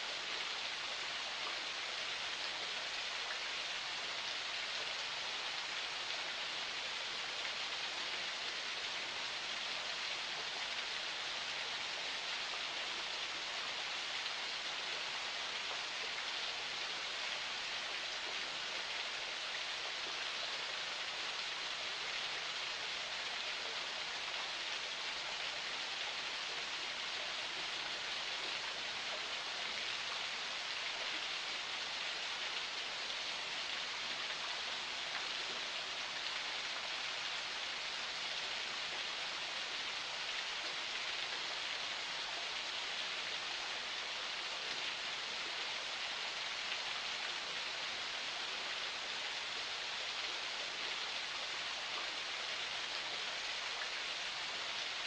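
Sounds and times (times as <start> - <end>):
forest spring water running: 0.0 - 55.0.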